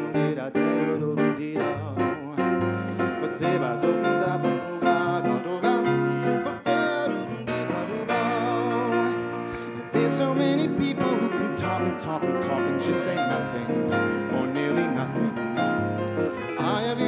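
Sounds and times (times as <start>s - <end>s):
acoustic guitars: 0.0s - 17.0s
grand piano: 0.0s - 17.0s
man singing with vibrato: 0.0s - 17.0s.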